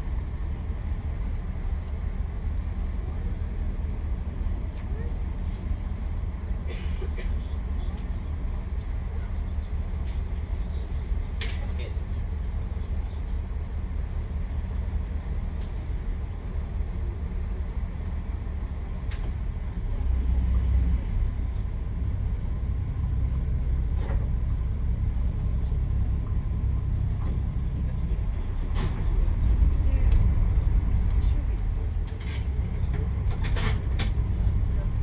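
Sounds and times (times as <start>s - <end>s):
boat engine low rumble: 0.0s - 35.0s.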